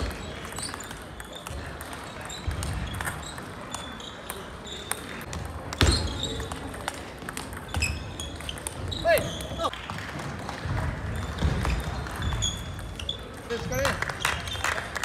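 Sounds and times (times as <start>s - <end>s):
table tennis balls clicking: 0.0s - 9.7s, 10.4s - 15.0s.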